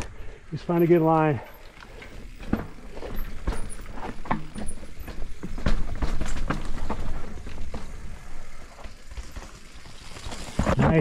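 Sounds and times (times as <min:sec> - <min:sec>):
bike tyres knocking on rocks: 0:02.1 - 0:11.0.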